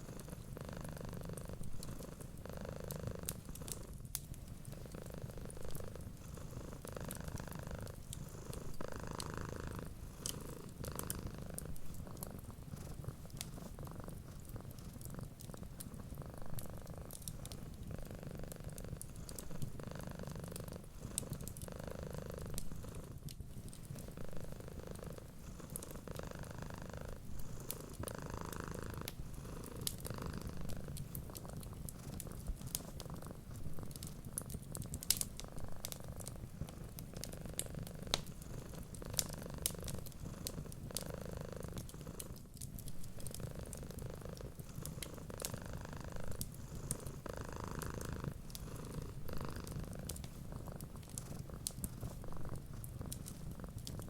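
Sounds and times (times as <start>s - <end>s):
cat purring: 0.0s - 54.0s
wood fire crackling: 1.4s - 54.0s.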